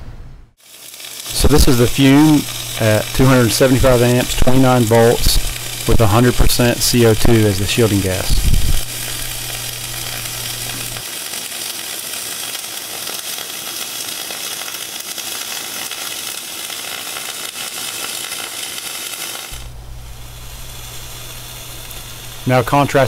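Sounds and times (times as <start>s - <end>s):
welding arc sizzling: 0.6s - 23.0s.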